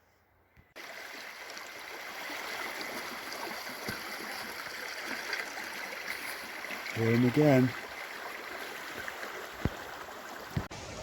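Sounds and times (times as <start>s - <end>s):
running water rushing: 0.8s - 11.0s.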